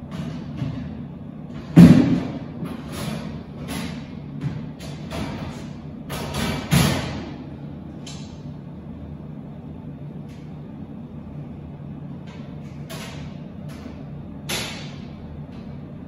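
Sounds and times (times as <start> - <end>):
refrigerated display case humming: 0.0 - 16.0.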